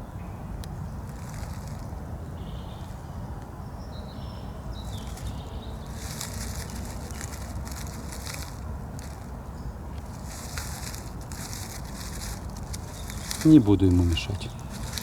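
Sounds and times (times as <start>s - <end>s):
wind rumbling on microphone: 0.0s - 15.0s
dry leaves and twigs rustling: 0.6s - 3.2s, 4.5s - 15.0s.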